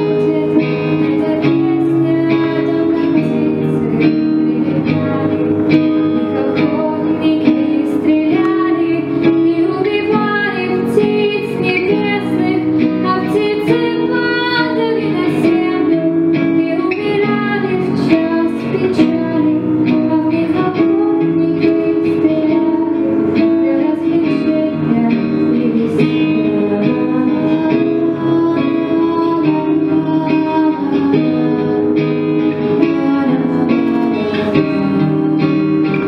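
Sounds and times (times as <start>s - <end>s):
girl singing into microphone: 0.0s - 36.0s
plucked strings and steady beat: 0.0s - 36.0s.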